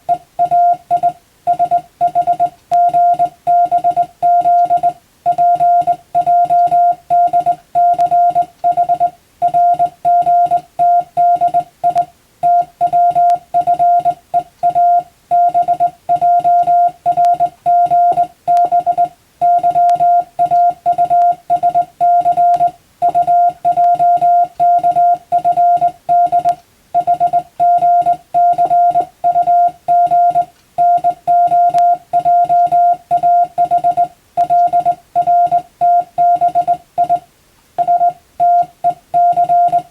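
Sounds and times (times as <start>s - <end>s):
morse code tone beeps: 0.0s - 39.9s.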